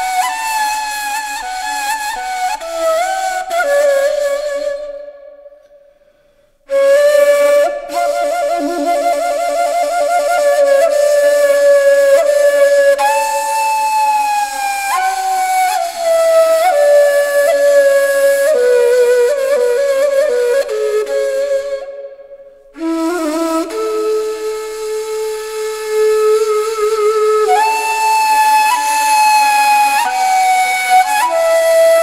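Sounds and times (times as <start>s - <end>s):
solo flute melody: 0.0s - 5.8s, 6.7s - 32.0s.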